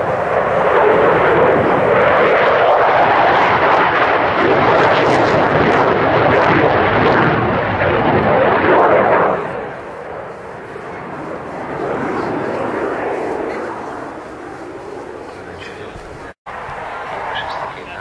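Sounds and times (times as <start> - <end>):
loud jet engine roar: 0.0 - 18.0.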